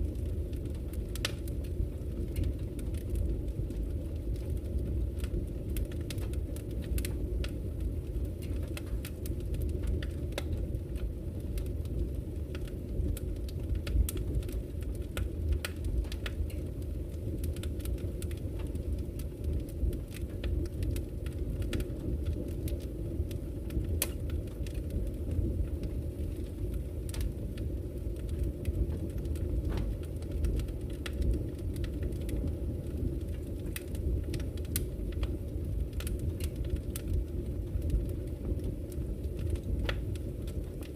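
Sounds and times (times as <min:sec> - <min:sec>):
logs crackling and popping: 0:00.0 - 0:40.9
wood fire burning: 0:00.0 - 0:40.9.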